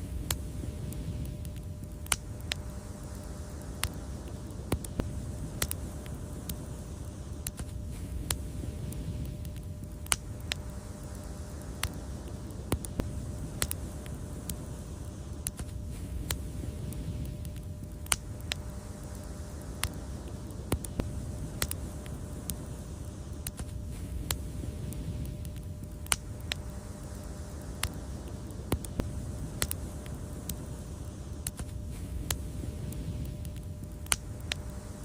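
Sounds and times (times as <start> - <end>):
low rumble of burning fire: 0.0 - 35.0
wood fire crackling and popping: 0.0 - 35.0.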